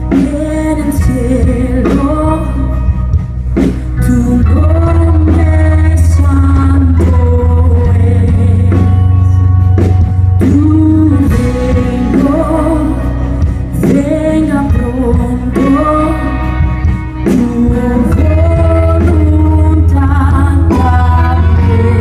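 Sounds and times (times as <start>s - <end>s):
bass: 0.0s - 22.0s
drums: 0.0s - 22.0s
electric guitar: 0.0s - 22.0s
women singing: 0.1s - 2.9s, 4.0s - 9.3s, 10.4s - 22.0s.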